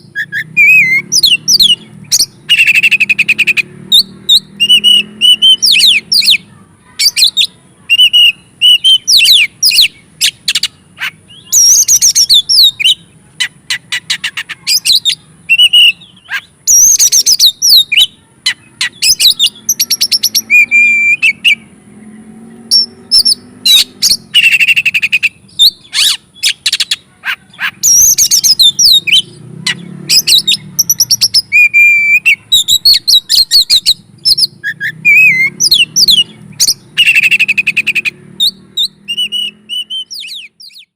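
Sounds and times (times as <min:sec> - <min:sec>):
songbird singing whistles and trills: 0:00.0 - 0:21.7, 0:22.6 - 0:40.9.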